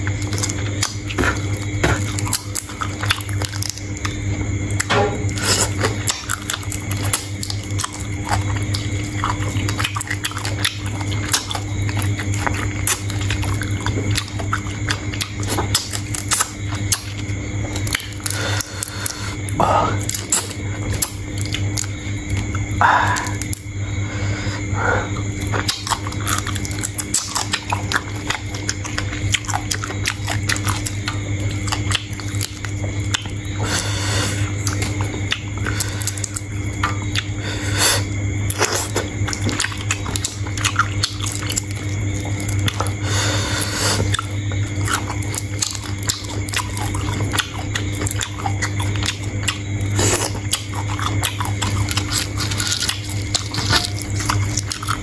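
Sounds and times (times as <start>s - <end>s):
chewing and crunching shrimp: 0.0s - 24.0s, 24.6s - 55.0s
low hum: 0.0s - 55.0s.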